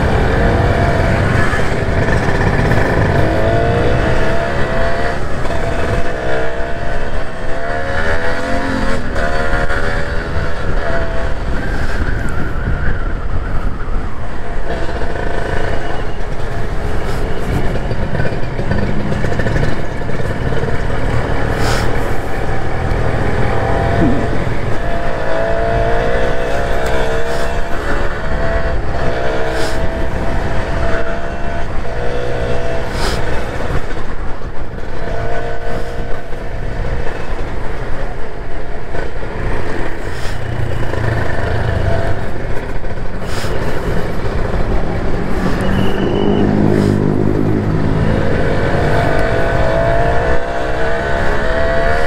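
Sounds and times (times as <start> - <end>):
motorcycle engine revving: 0.0 - 12.9, 13.8 - 52.0.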